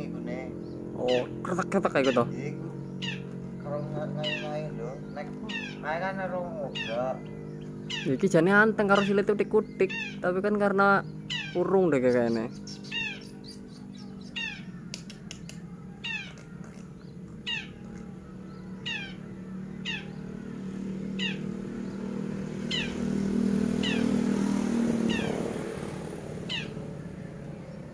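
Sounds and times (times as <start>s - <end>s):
shrike calling: 0.0s - 27.9s
steady low hum: 0.0s - 27.9s.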